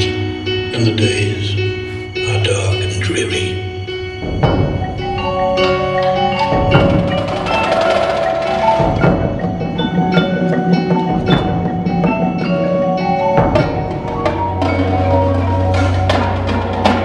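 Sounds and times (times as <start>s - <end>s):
ringing mallet keyboard notes: 0.0s - 17.0s
sharp percussion hits: 0.0s - 17.0s.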